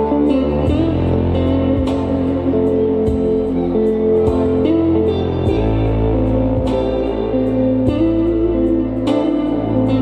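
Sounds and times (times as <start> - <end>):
slow music with low bass: 0.0 - 10.0.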